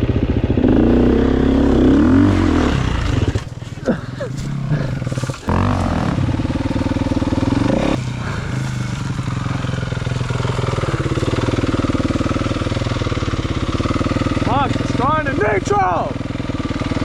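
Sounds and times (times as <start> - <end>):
dirt bike engine running hard: 0.0 - 17.0.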